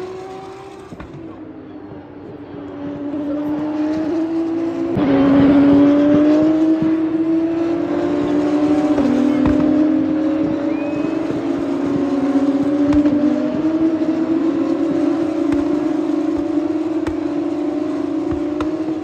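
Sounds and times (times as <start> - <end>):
racing car engines accelerating: 0.0 - 19.0.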